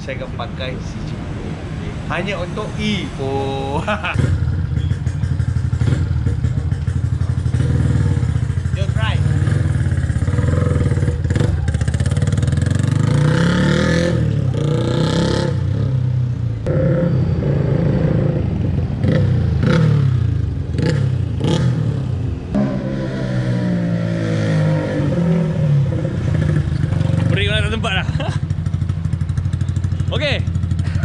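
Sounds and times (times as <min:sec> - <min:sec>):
motorcycle revving hard: 0:01.4 - 0:31.0.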